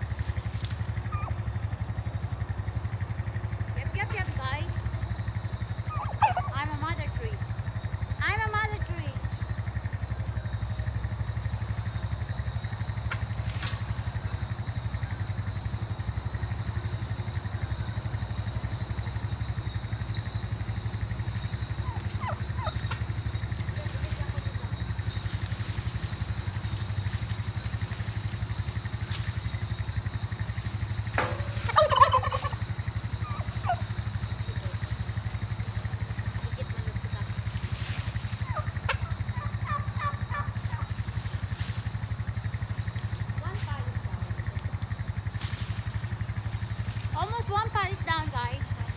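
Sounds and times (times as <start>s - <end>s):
farm fowl calling: 0.0s - 48.9s
steady low rumble: 0.0s - 48.9s.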